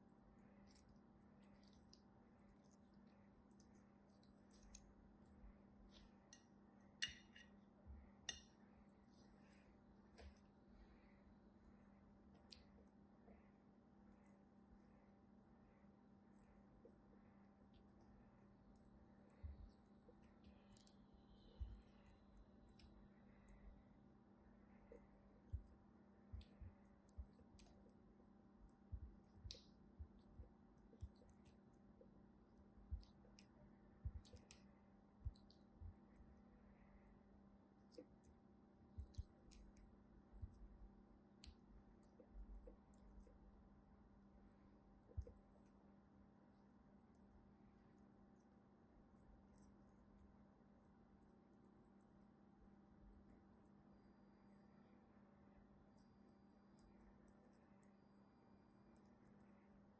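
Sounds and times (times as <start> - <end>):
quiet steady hum: 0.0 - 59.9.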